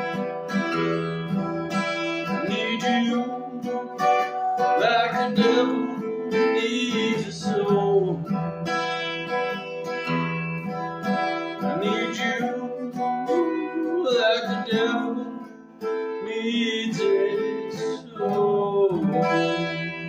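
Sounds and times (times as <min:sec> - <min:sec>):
strummed string instrument: 0:00.0 - 0:20.0.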